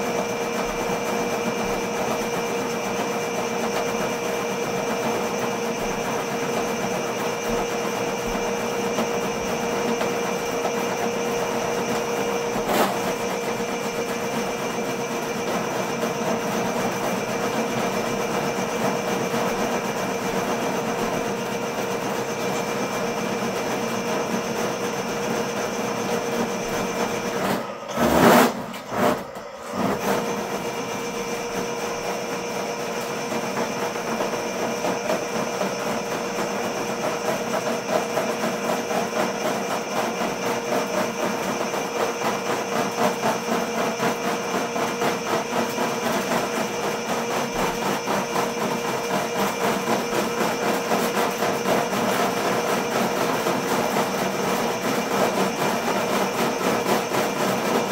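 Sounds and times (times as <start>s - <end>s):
drain machine motor whining: 0.0s - 57.9s.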